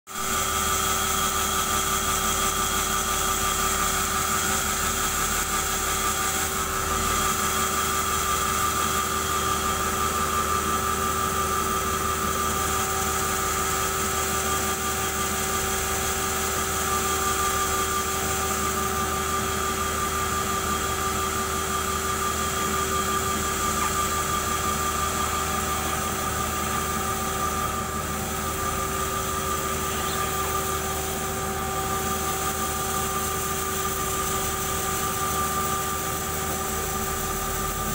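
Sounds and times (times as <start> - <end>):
sawmill machine hum and whine: 0.1 - 37.9.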